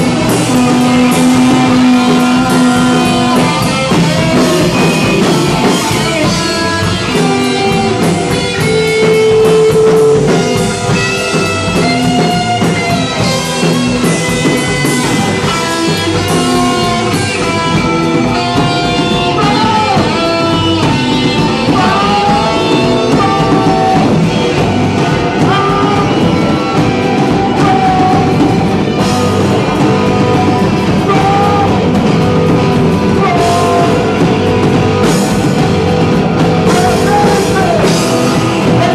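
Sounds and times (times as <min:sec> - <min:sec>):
live rock band music: 0:00.0 - 0:38.9.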